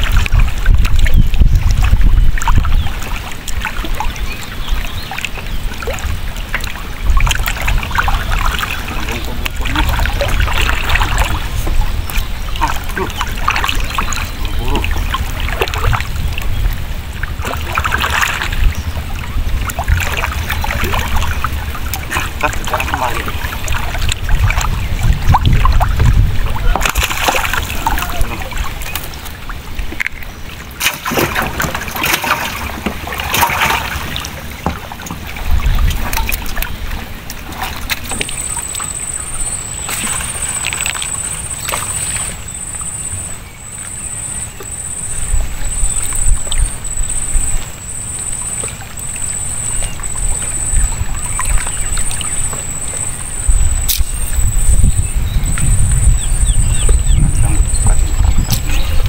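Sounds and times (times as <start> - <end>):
wind on microphone: 0.0 - 42.5, 44.5 - 48.4, 49.0 - 59.0
water splashing against boat hull: 0.0 - 59.0.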